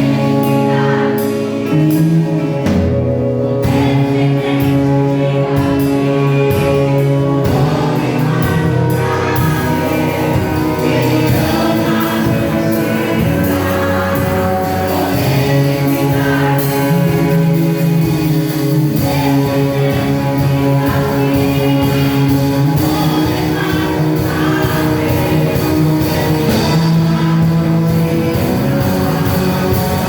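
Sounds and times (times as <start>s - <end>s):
gospel singers with band: 0.0s - 30.0s.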